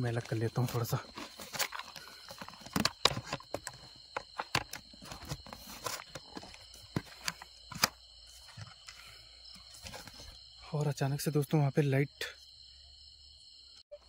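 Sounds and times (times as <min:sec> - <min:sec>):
night insects droning: 0:00.0 - 0:14.0.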